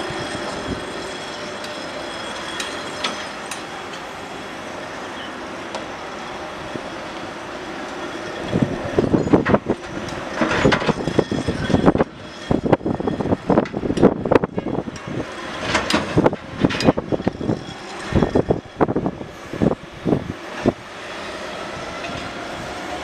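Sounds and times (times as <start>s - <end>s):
jet engines rumbling and crackling: 0.0s - 23.0s.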